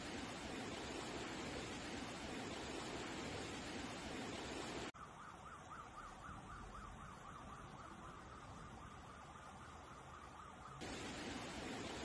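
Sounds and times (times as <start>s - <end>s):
rain and floodwater hiss: 0.0s - 12.0s.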